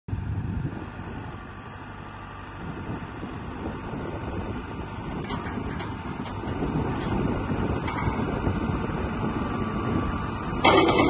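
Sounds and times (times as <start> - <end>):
excavator diesel engine running: 0.1 - 11.0
hydraulics working: 1.0 - 11.0.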